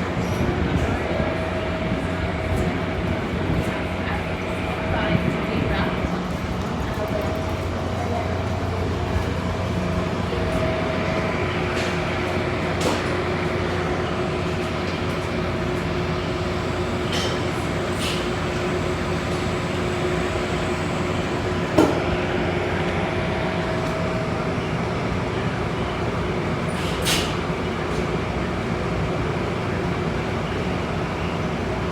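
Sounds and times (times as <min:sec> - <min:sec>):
diesel locomotive rumbling: 0:00.0 - 0:31.9.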